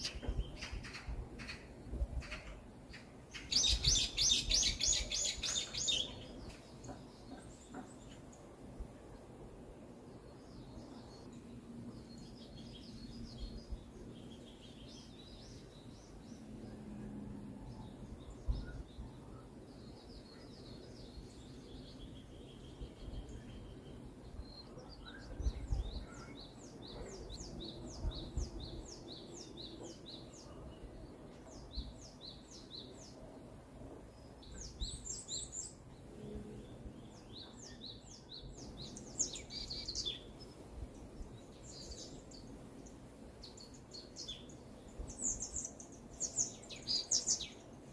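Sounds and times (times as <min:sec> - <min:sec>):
low background hiss: 0:00.0 - 0:47.9
songbirds chirping and trilling: 0:00.0 - 0:47.9.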